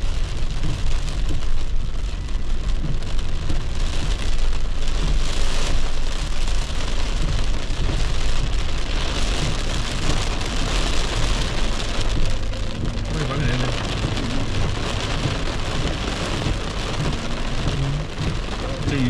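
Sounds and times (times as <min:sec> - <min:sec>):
car rumbling: 0:00.0 - 0:19.0
heavy rain on car windshield: 0:00.0 - 0:19.0.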